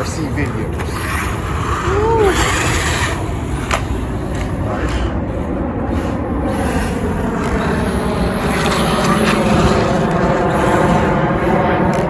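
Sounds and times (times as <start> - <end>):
electric motor whine: 0.0 - 12.0
tyres rumbling over ground: 0.0 - 12.0.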